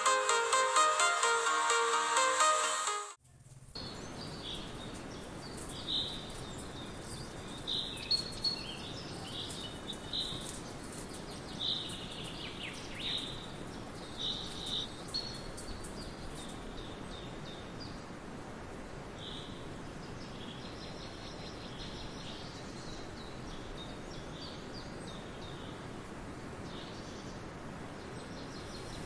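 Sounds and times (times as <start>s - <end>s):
outdoor background hiss: 0.0s - 29.0s
birds chirping: 3.5s - 29.0s.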